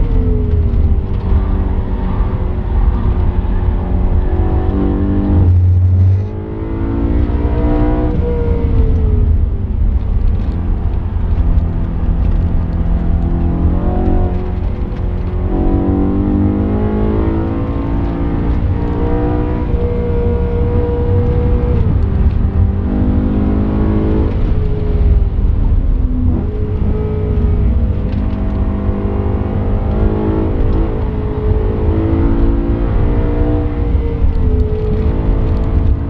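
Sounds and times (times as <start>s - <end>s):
car engine at full throttle: 0.0s - 36.0s
road and wind rumble: 0.0s - 36.0s.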